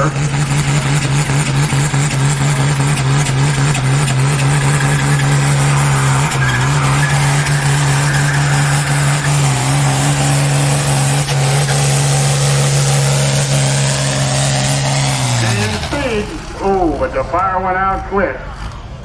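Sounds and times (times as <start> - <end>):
diesel engine at high revs: 0.0 - 19.0.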